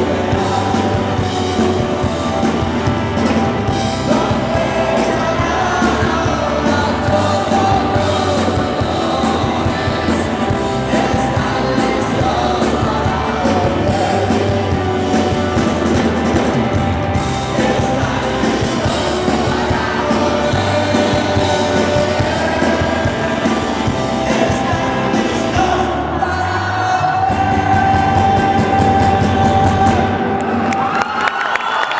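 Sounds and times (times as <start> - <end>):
man singing: 0.0 - 16.2, 17.2 - 30.4
live rock band: 0.0 - 31.9.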